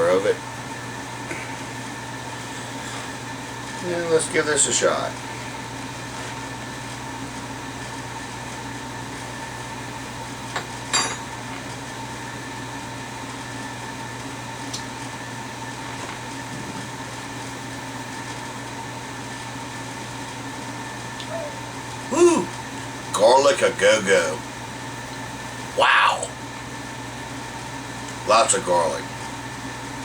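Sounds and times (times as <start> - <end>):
appliance humming: 0.0 - 30.0.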